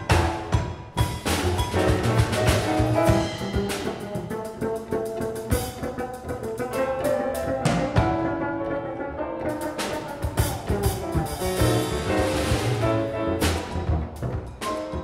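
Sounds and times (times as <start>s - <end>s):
drum kit with cymbals: 0.0s - 8.4s, 9.5s - 15.0s
piano: 0.0s - 15.0s
plucked double bass: 0.0s - 15.0s.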